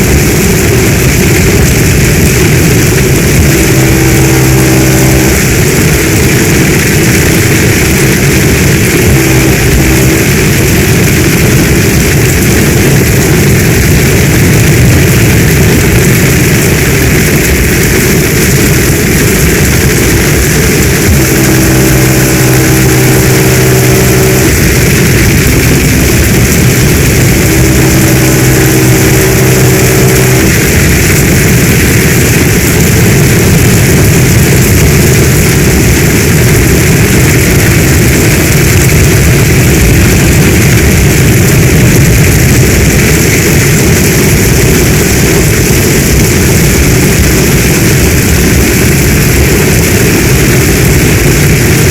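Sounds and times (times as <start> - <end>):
heavy rain hissing: 0.0 - 51.9
low multi-tone hum: 0.0 - 51.9.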